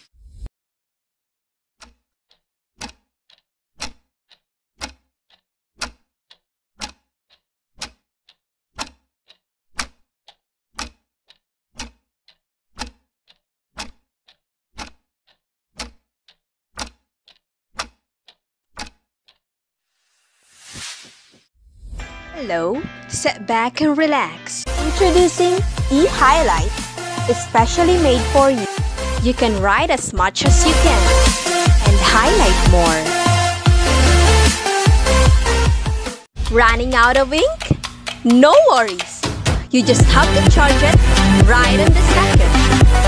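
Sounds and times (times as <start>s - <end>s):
clock ticking: 1.8s - 19.4s, 22.5s - 43.0s.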